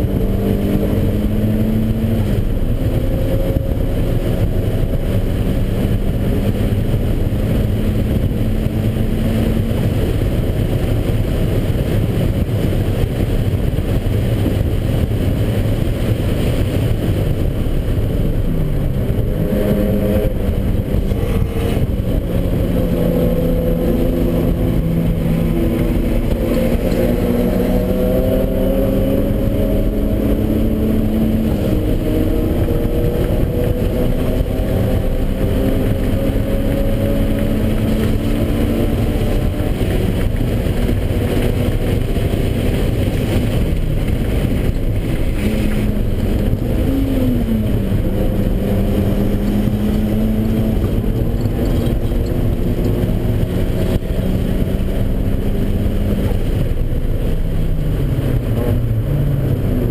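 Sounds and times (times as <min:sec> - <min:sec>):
car engine revving through gears: 0:00.0 - 0:59.9
road and wind noise: 0:00.0 - 0:59.9.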